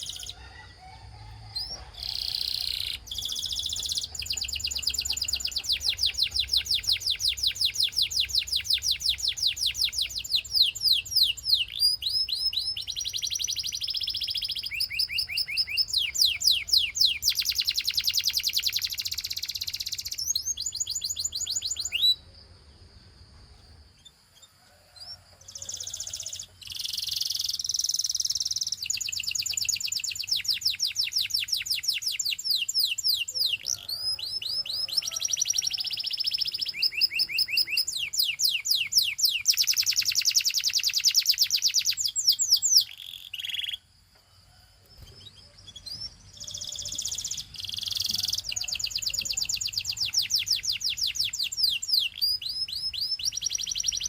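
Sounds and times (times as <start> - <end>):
canary singing: 0.0 - 22.3, 24.0 - 43.9, 44.9 - 54.0.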